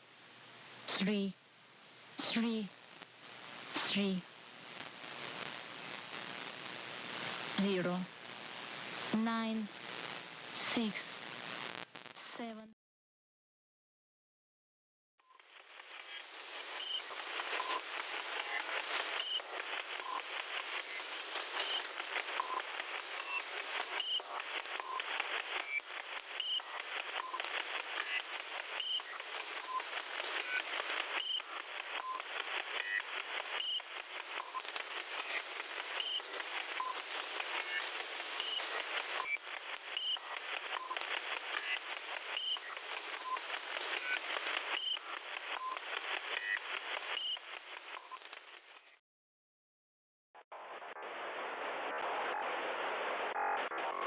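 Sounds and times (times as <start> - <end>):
raspy radio data signal: 2.2 - 12.6, 15.8 - 48.9, 50.5 - 54.0.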